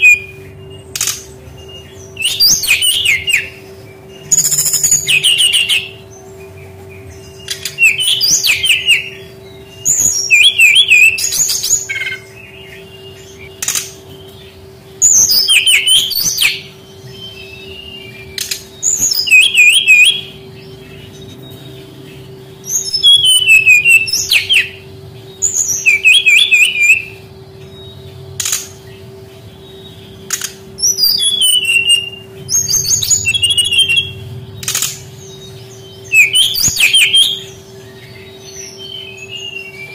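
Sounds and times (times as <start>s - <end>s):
bird twittering song: 0.0s - 39.9s
steady low hum: 0.0s - 39.9s.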